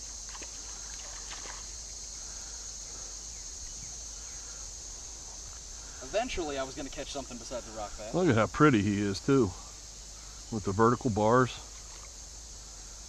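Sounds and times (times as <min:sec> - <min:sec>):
insects chirping chorus: 0:00.0 - 0:13.0.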